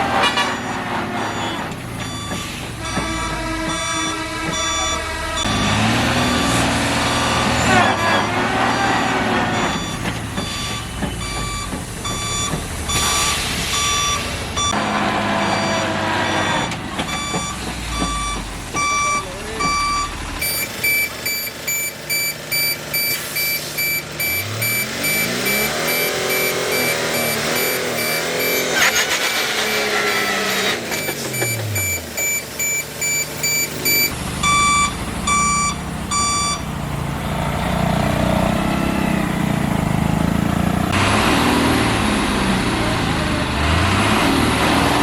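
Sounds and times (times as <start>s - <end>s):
truck reversing alarm beeping: 0.0s - 14.8s, 15.4s - 37.2s
diesel engine running: 0.0s - 45.0s.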